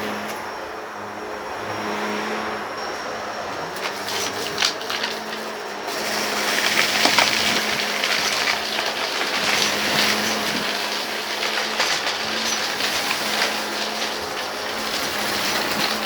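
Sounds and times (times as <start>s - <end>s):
vacuum cleaner running: 0.0s - 16.0s
debris crackling and rattling: 2.8s - 16.0s.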